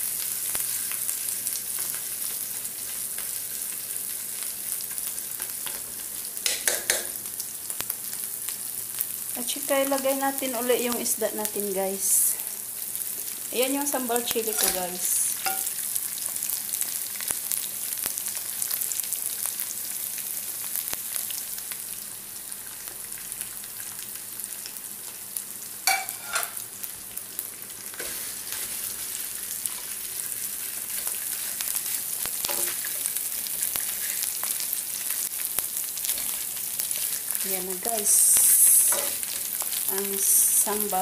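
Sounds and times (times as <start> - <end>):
fish sizzling in a pan: 0.0 - 41.0.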